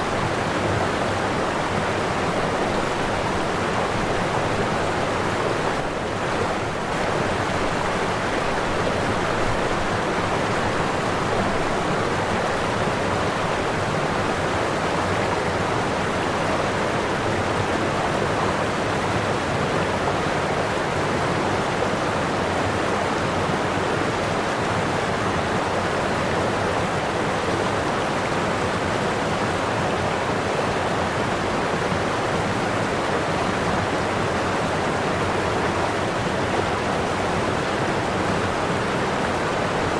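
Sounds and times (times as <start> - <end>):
waterfall roar: 0.0 - 39.9.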